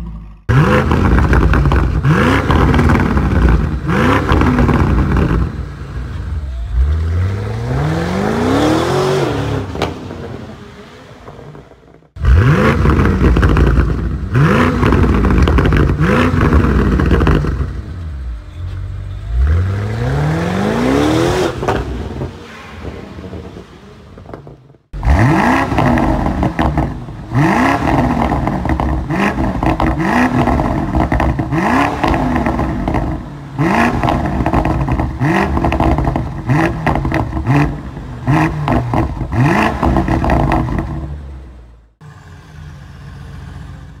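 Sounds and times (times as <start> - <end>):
car engine revving: 0.0 - 44.0
exhaust crackles: 0.0 - 44.0.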